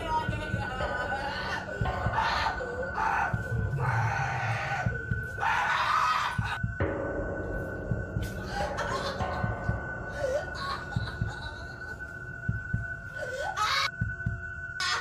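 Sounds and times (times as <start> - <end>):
low thumps: 0.0 - 5.4, 6.3 - 13.2, 13.9 - 14.8.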